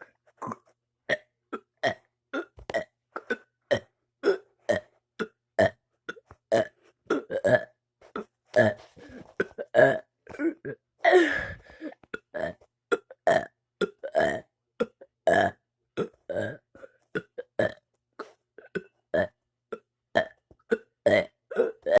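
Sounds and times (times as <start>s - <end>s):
person burping: 0.3s - 22.0s.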